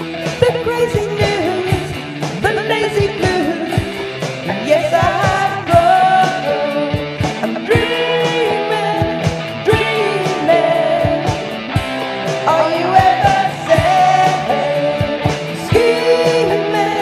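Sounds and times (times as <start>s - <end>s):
guitar: 0.0s - 17.0s
person singing: 0.0s - 17.0s
steady drum beat: 0.0s - 17.0s.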